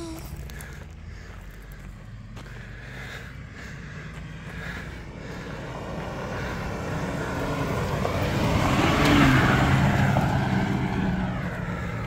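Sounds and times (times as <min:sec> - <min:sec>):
tyres crunching on gravel: 0:00.0 - 0:12.0
vehicle engine driving past: 0:00.3 - 0:12.0.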